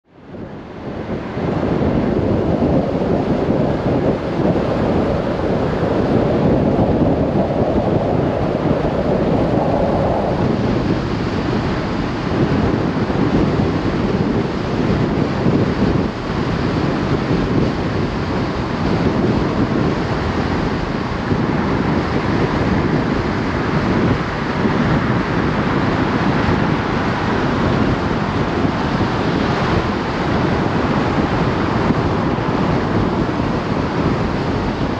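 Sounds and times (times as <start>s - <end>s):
wind on microphone: 0.0s - 34.9s.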